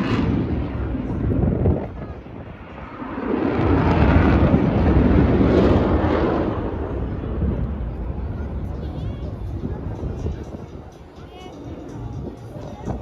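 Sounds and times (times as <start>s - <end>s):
aircraft engine passing: 0.0s - 11.8s
wind on microphone: 0.0s - 13.0s.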